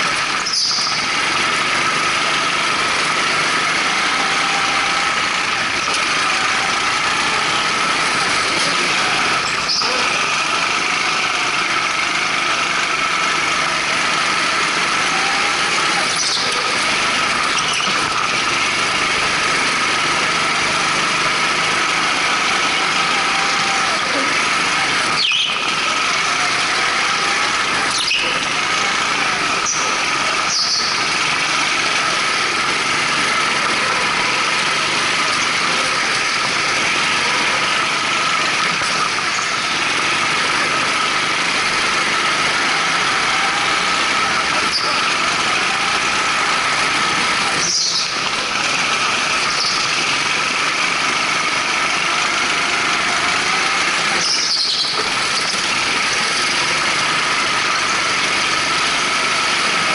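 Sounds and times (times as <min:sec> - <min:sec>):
go-kart engines droning: 0:00.0 - 0:59.9
tyres squealing: 0:00.0 - 0:59.9.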